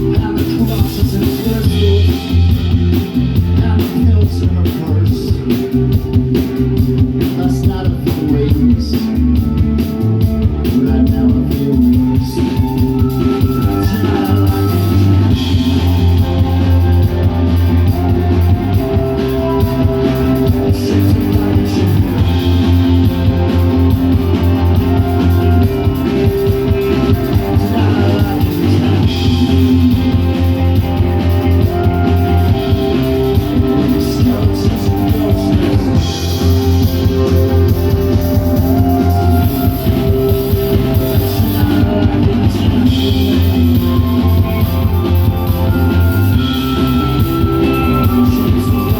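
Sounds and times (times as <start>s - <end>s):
man singing: 0.0s - 48.9s
rock band playing: 0.0s - 48.9s.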